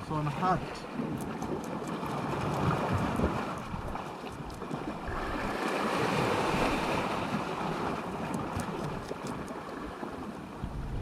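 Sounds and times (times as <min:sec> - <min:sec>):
sea waves washing on shore: 0:00.0 - 0:11.0
wind buffeting microphone: 0:00.8 - 0:11.0.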